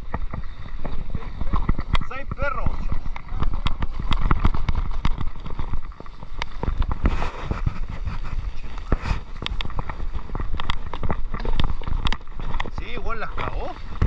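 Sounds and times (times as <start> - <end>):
bike rattling over dirt: 0.0 - 14.0
wind on microphone: 0.0 - 14.0.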